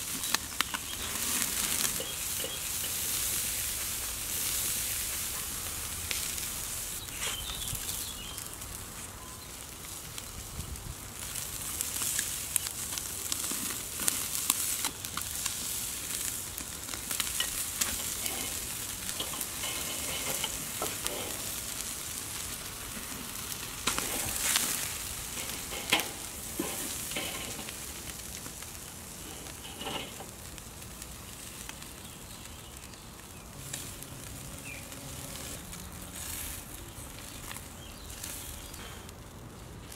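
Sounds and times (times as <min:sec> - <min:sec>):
chicken wings sizzling on grill: 0:00.0 - 0:39.9
sharp pops and crackles: 0:00.0 - 0:39.9.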